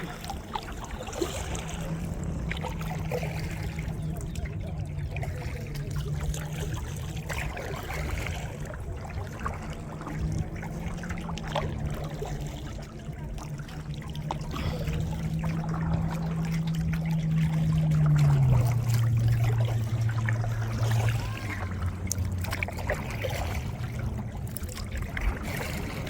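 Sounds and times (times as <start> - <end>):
paddle splashing in water: 0.0 - 26.0
steady low hum: 0.0 - 26.0
water trickling and dripping: 0.0 - 26.0.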